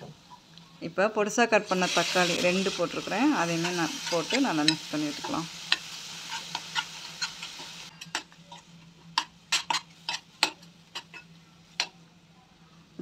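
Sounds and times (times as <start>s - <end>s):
frying sizzle: 1.5s - 12.0s.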